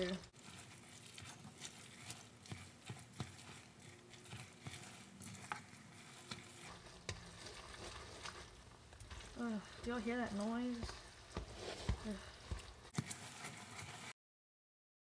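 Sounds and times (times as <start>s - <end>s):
spoon scraping metal pot: 0.3s - 14.1s.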